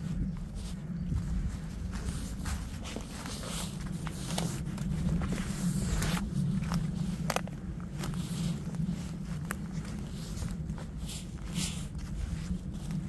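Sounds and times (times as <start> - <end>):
footsteps on dry leaves: 0.0 - 13.0
low rumble: 0.0 - 13.0.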